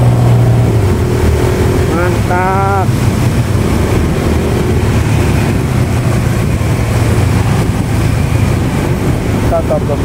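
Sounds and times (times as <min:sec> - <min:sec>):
motorcycle engine humming: 0:00.0 - 0:10.0
road noise hiss: 0:00.0 - 0:10.0.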